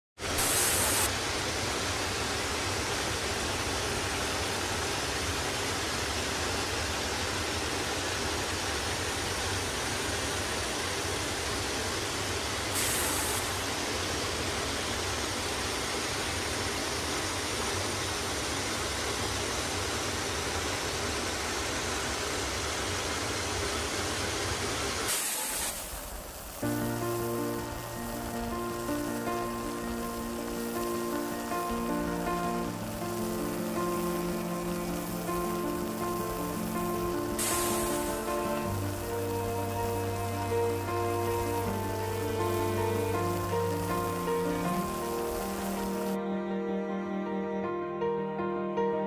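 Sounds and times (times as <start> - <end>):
waterfall rushing: 0.2 - 46.2.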